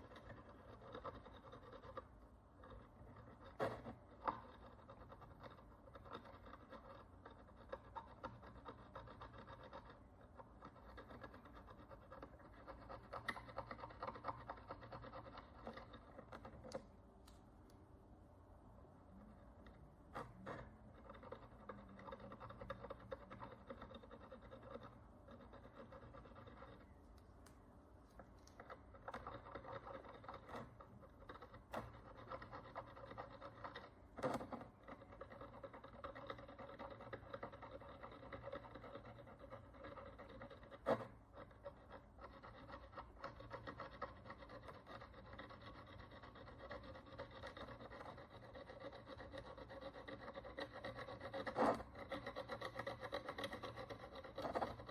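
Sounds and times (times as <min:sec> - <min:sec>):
hand tool scratching coin: 0:00.0 - 0:16.7, 0:20.2 - 0:27.0, 0:28.5 - 0:54.9.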